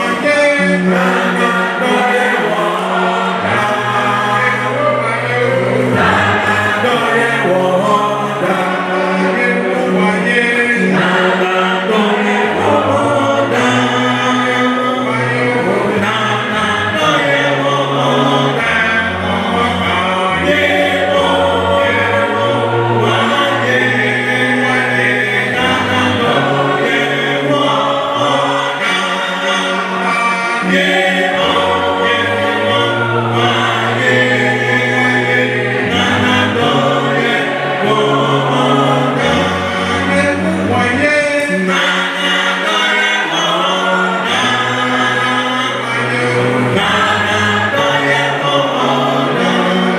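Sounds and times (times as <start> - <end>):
choir singing a hymn unaccompanied: 0.0 - 49.9.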